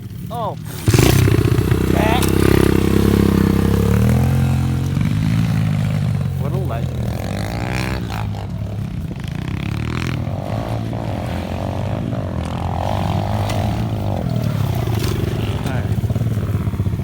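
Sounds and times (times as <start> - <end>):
engine revving: 0.0 - 17.0
pit bike engines running: 0.0 - 17.0.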